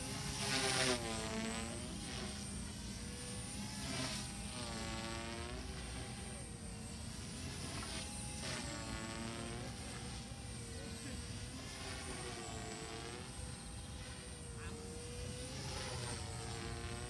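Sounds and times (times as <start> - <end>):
rc helicopter motor and rotor whine: 0.0 - 17.0.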